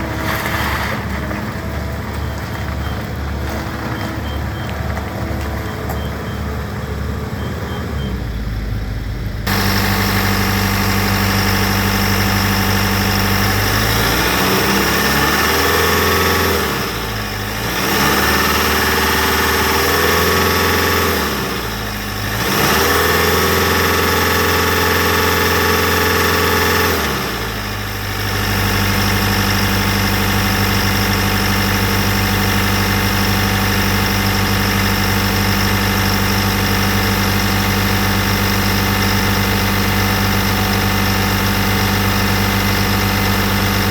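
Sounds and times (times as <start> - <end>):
diesel engine idling and revving: 0.0 - 43.9.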